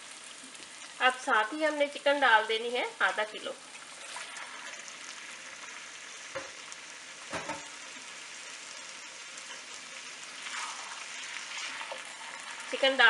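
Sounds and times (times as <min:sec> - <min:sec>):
hot oil sizzling in a wok: 0:00.0 - 0:13.0.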